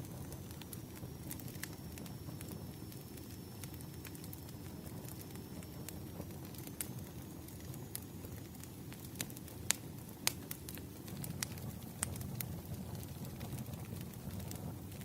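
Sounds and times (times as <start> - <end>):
fireplace fire crackling: 0.0 - 15.0
sharp pops from fire: 0.0 - 15.0.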